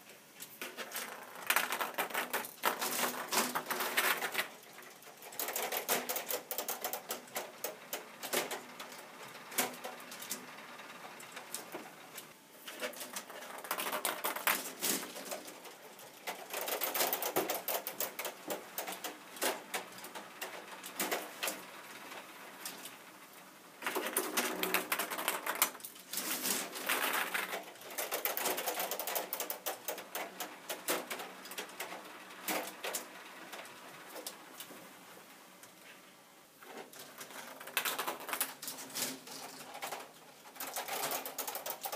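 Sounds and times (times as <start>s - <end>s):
plastic mechanism clicking and rattling: 0.6s - 11.9s, 12.7s - 21.7s, 23.8s - 34.4s, 36.7s - 41.9s.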